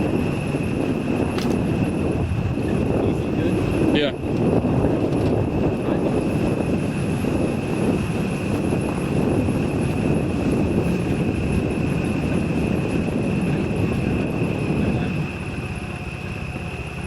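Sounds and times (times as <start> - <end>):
engine and drivetrain rumble: 0.0 - 17.0
high whine: 0.0 - 17.0
road noise: 0.0 - 17.0.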